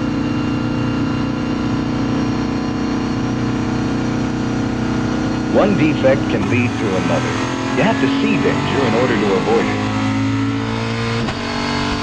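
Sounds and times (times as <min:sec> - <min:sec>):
vehicle engine droning: 0:00.5 - 0:12.0.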